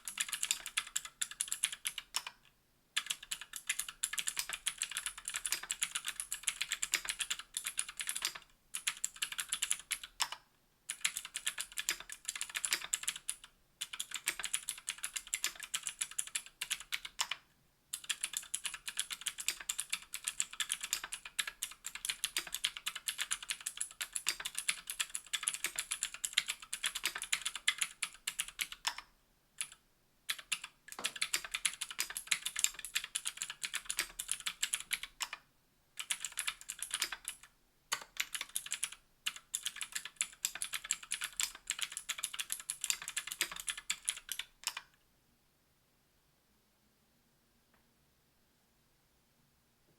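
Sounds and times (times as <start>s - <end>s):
mechanical keyboard typing clicks: 0.0s - 2.4s, 3.0s - 35.4s, 36.0s - 44.9s.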